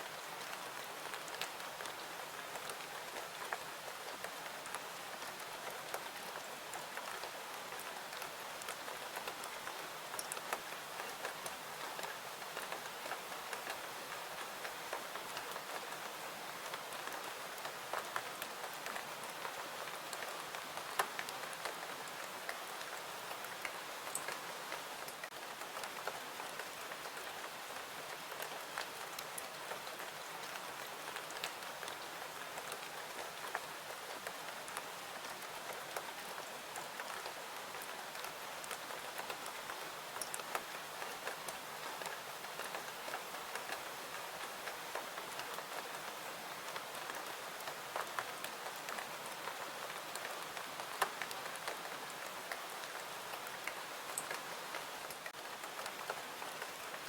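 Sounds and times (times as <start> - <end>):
raindrops ticking and popping: 0.0 - 57.0
steady rain hiss: 0.0 - 57.0.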